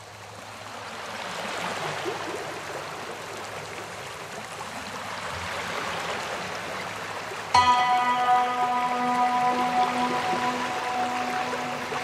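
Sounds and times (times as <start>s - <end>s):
waves washing onto a beach: 0.0s - 12.0s.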